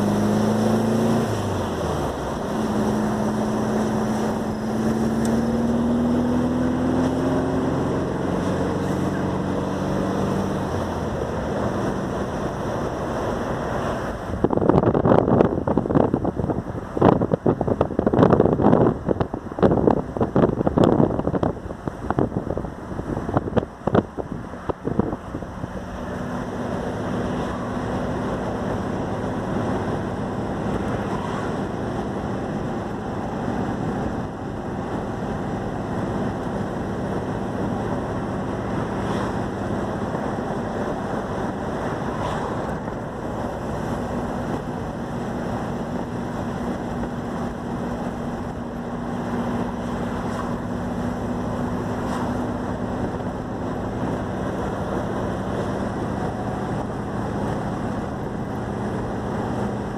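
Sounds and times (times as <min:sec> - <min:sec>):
car engine running: 0:00.0 - 0:59.9
wind buffeting microphone: 0:00.0 - 0:59.9.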